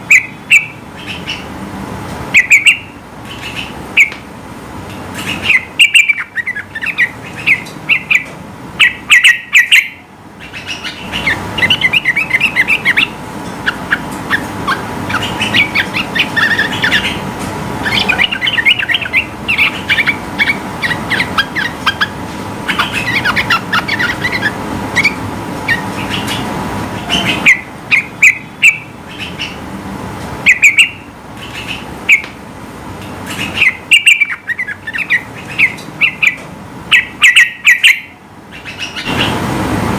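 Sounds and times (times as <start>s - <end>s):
bird chirping song: 0.0s - 1.5s, 2.3s - 4.2s, 5.2s - 29.6s, 30.5s - 32.3s, 33.3s - 39.4s
low background rush: 0.0s - 39.9s.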